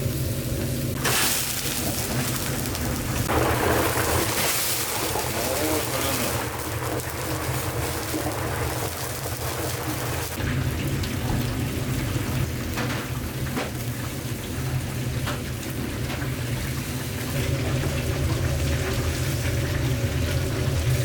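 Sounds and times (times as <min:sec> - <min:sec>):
skewers sizzling and crackling: 0:00.0 - 0:21.0.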